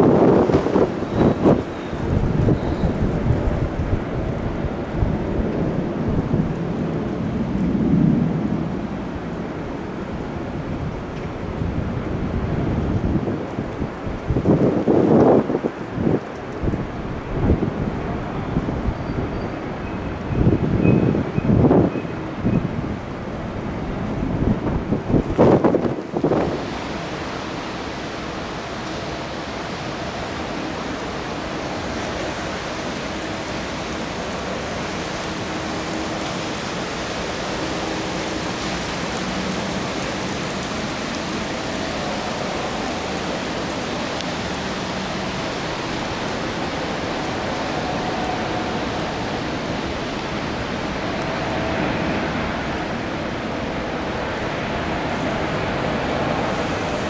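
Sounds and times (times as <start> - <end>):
jet engines rushing: 0.0 - 57.0
wind noise: 0.0 - 57.0.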